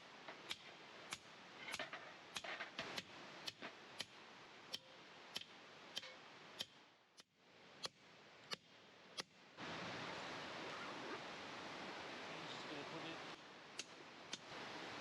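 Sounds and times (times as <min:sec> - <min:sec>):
low hiss: 0:00.0 - 0:15.0
steady rushing hiss: 0:00.0 - 0:15.0.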